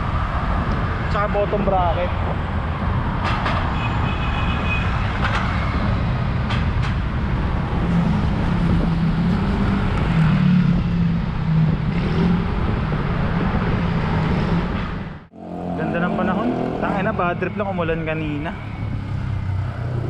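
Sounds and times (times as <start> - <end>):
road and wind noise: 0.0 - 20.0
road traffic: 0.0 - 20.0.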